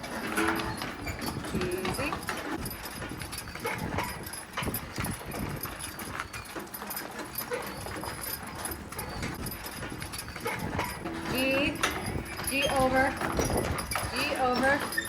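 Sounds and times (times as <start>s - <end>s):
mule hoofbeats clopping: 0.0s - 15.0s
rough background noise: 0.0s - 15.0s.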